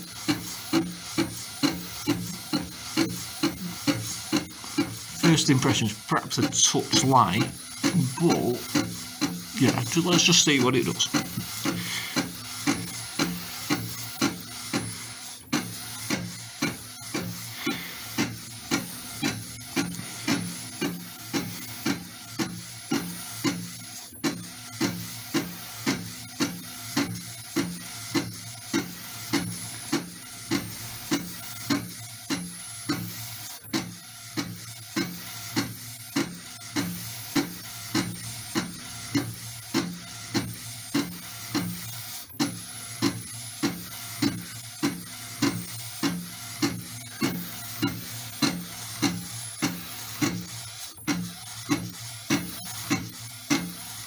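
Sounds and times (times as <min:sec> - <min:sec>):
motor hum: 0:00.0 - 0:54.0
printer carriage sweeping: 0:00.0 - 0:54.0.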